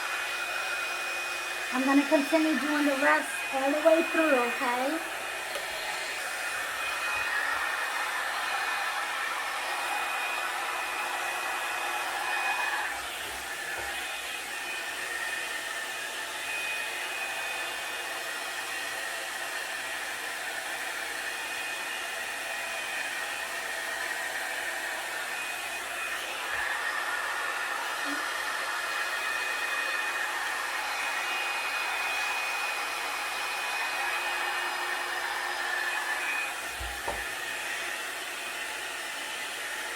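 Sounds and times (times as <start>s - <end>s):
hot-air dryer brush fan blowing: 0.0s - 39.9s.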